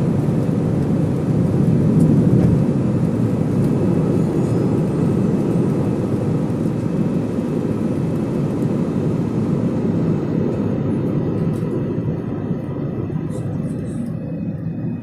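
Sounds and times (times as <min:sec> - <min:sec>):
faint engine whine: 0:00.0 - 0:15.0
jet engines rumbling: 0:00.0 - 0:15.0.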